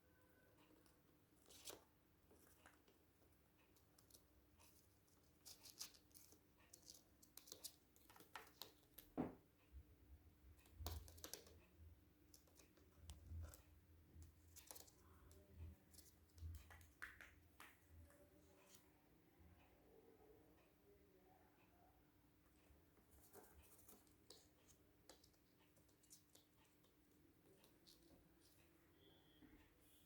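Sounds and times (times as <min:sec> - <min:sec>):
faint light clicks and scratches: 0:00.6 - 0:09.2, 0:10.5 - 0:18.9, 0:22.4 - 0:30.0.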